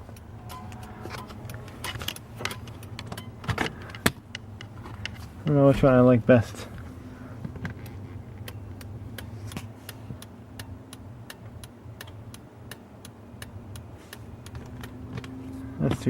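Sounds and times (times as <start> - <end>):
low steady hum: 0.0 - 16.0
turn signal flasher clicking: 0.0 - 16.0.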